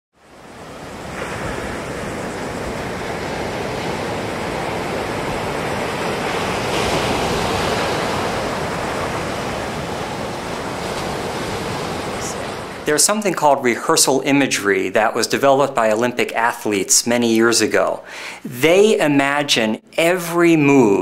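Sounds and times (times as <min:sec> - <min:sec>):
ocean waves washing in: 0:00.2 - 0:19.0.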